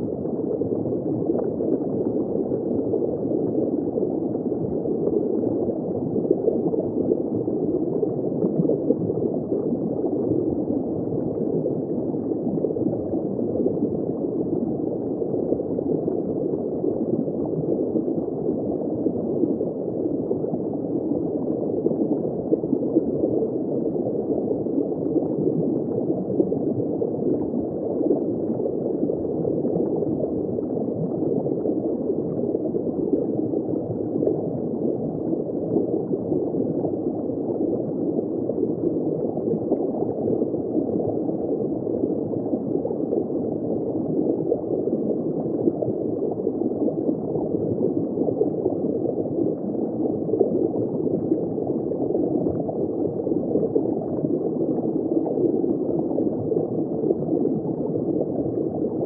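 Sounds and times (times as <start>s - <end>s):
underwater bubbling and gurgling: 0.0s - 59.0s.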